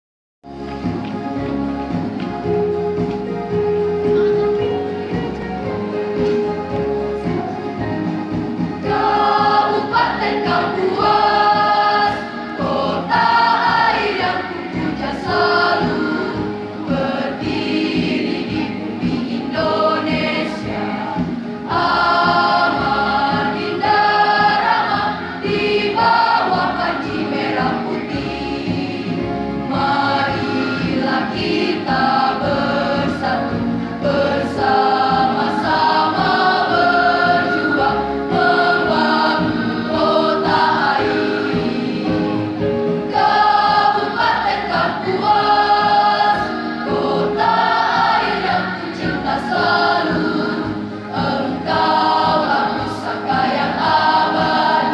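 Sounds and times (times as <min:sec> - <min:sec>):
electronic keyboard: 0:00.5 - 0:54.9
choir of girls singing: 0:08.8 - 0:54.9.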